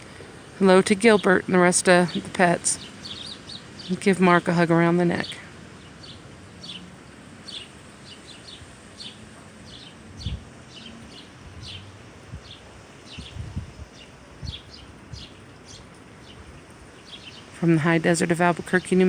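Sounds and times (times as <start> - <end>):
small birds chirping: 0.0 - 19.0
steady outdoor hiss: 0.0 - 19.0
wind gusts on microphone: 0.0 - 19.0.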